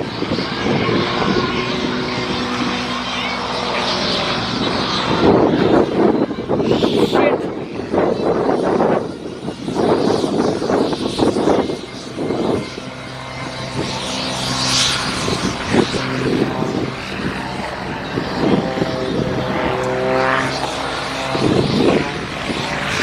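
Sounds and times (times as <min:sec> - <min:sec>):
propeller aircraft engine droning: 0:00.0 - 0:23.0.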